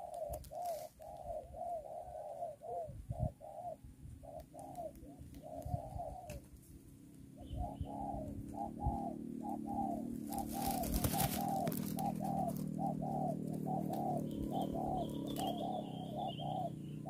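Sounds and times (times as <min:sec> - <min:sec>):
dove cooing: 0:00.0 - 0:17.0.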